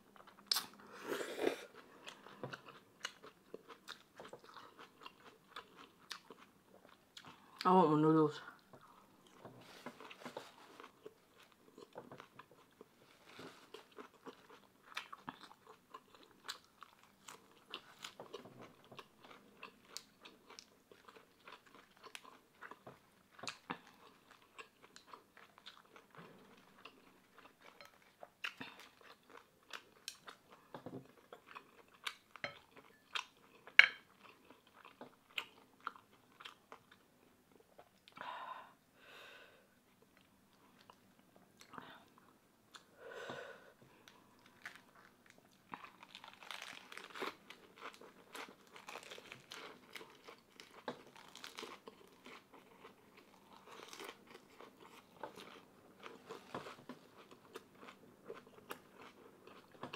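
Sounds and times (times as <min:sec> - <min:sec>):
close chewing with crunches: 0:01.5 - 0:07.8, 0:08.6 - 0:38.2, 0:44.0 - 0:59.9.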